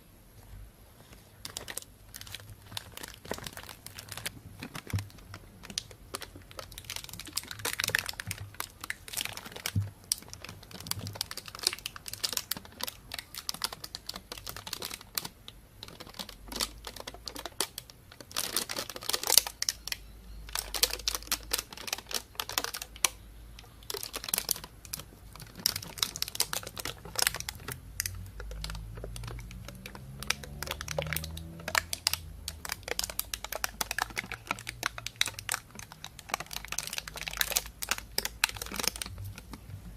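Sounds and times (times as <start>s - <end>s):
plastic bag crinkling: 1.3s - 39.9s.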